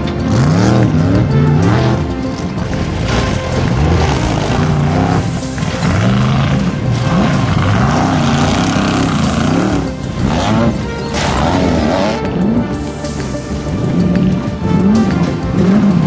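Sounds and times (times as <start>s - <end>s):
background music: 0.0s - 16.0s
truck engine revving: 0.0s - 16.0s.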